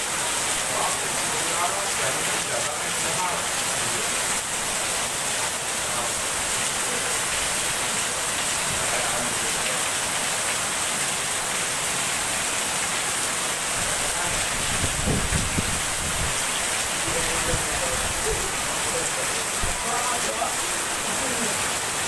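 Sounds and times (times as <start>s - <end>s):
heavy rain on leaves: 0.0s - 22.0s.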